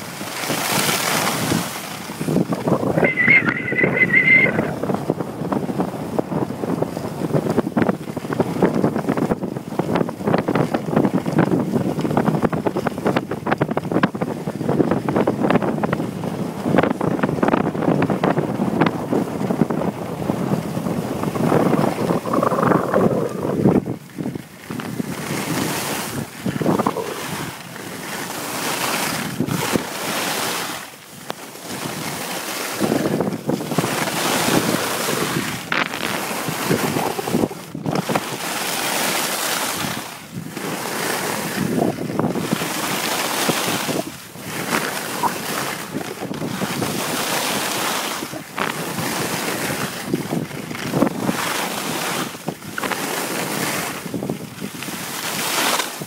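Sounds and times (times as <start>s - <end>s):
skis scraping over snow: 0.0s - 56.0s
wind on microphone: 0.0s - 56.0s.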